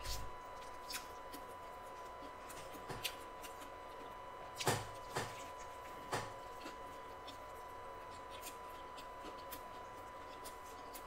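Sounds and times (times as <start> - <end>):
crunching bites and chewing: 0.0 - 11.0.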